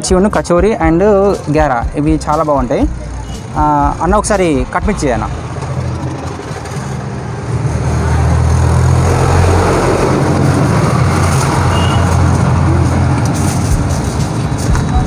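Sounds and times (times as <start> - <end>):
vehicle engine droning: 2.8 - 15.0.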